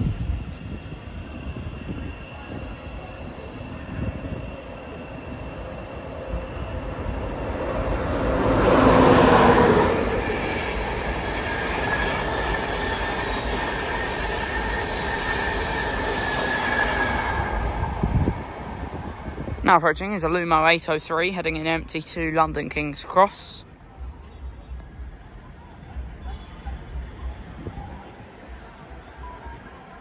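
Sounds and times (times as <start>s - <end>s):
passenger train rushing past: 0.0s - 30.0s.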